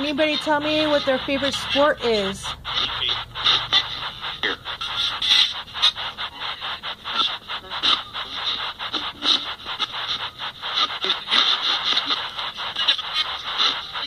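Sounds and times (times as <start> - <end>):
choppy static bursts: 0.0 - 14.0
voice-like snippets: 0.0 - 14.0.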